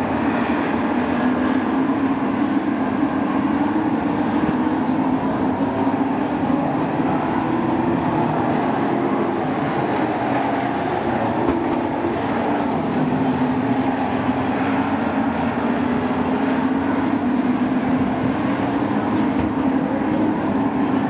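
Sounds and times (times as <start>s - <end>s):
race engines droning: 0.0s - 21.0s.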